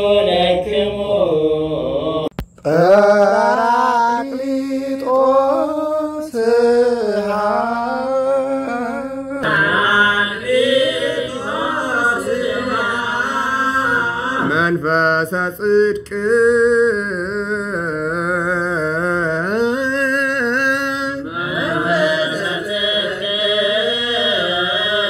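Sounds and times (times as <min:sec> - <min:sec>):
unaccompanied chanted hymn: 0:00.0 - 0:25.0.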